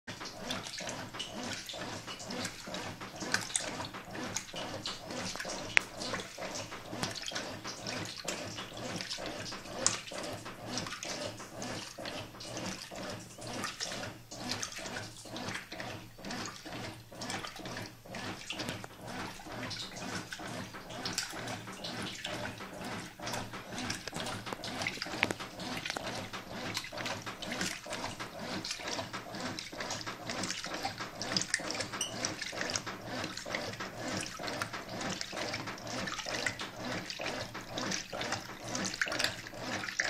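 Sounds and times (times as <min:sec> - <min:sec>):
washing machine agitating water: 0:00.0 - 0:40.0.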